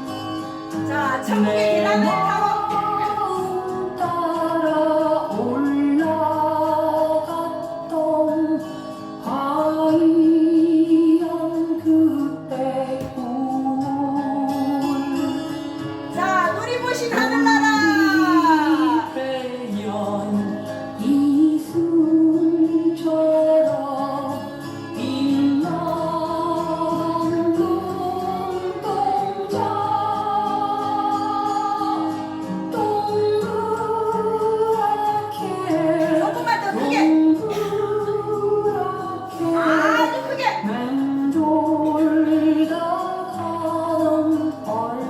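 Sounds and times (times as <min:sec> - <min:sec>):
person singing: 0:00.8 - 0:15.4, 0:16.2 - 0:45.0.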